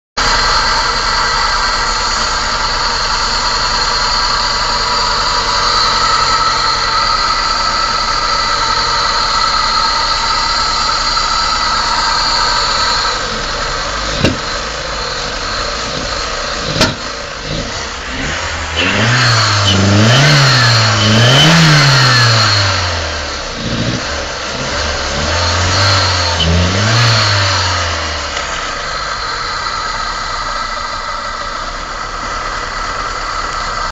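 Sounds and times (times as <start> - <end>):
car engine starting and revving: 0.2 - 33.9
whining hum: 0.2 - 33.9.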